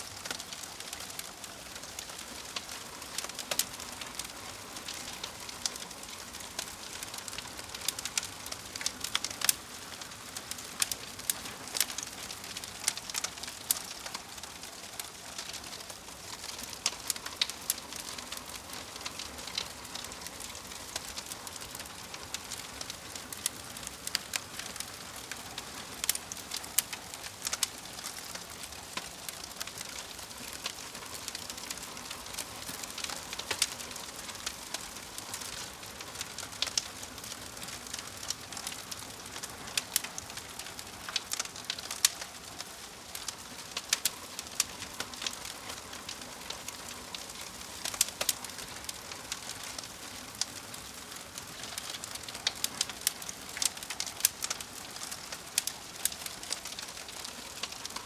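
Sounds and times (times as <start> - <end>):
log fire hissing and crackling: 0.0 - 58.0.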